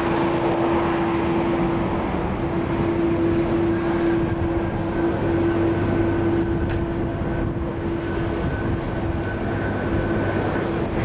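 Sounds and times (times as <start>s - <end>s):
jet engines droning: 0.0s - 11.0s.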